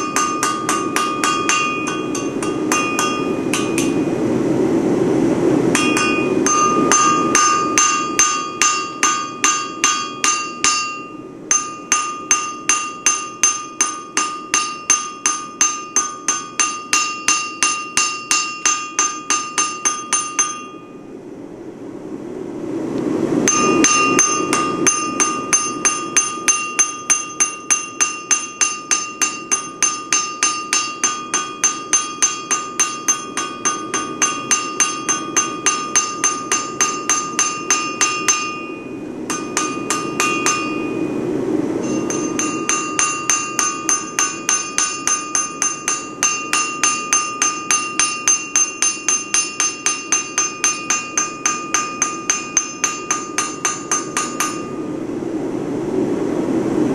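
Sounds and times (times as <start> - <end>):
hammer ringing on anvil: 0.0 - 4.2, 5.7 - 21.0, 23.4 - 55.0.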